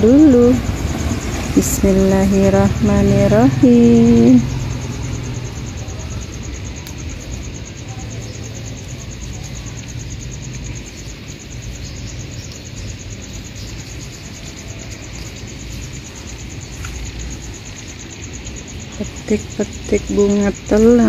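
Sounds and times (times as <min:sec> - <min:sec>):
insect trilling: 0:00.0 - 0:21.0.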